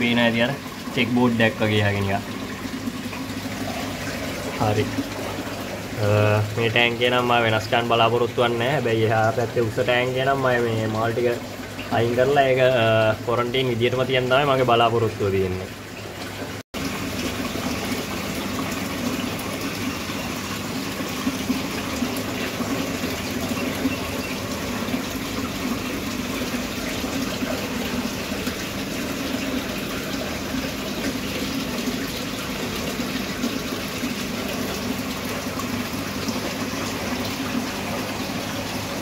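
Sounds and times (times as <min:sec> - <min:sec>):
water rushing and splashing: 0:00.0 - 0:39.0.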